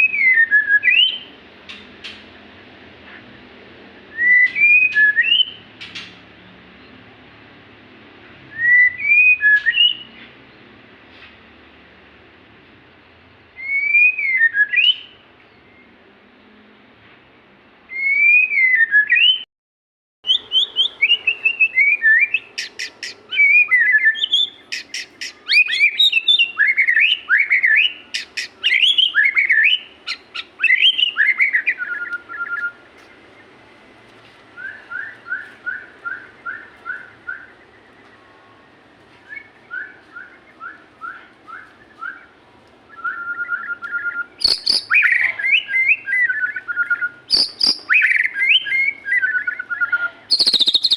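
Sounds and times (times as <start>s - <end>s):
songbird singing: 0.0s - 12.1s, 12.8s - 17.0s, 20.2s - 50.9s.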